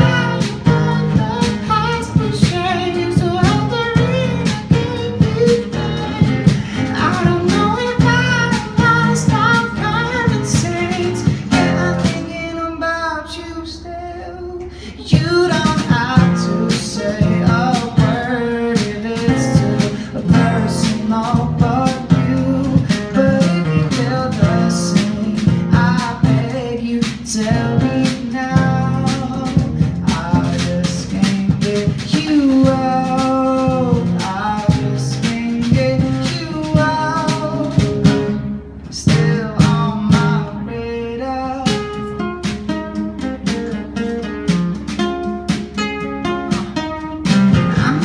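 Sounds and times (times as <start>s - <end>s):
drum kit played with sticks: 0.0s - 12.8s, 14.6s - 48.0s
harmony voice singing: 0.0s - 42.0s, 47.7s - 48.0s
man singing lead: 0.0s - 42.3s, 47.5s - 48.0s
acoustic guitars strummed: 0.0s - 48.0s.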